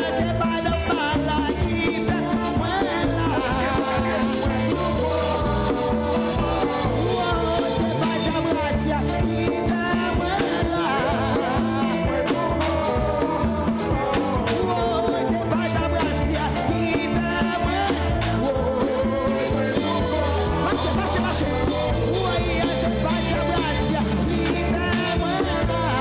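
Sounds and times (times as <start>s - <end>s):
people singing: 0.0s - 26.0s
worship band playing upbeat music: 0.0s - 26.0s.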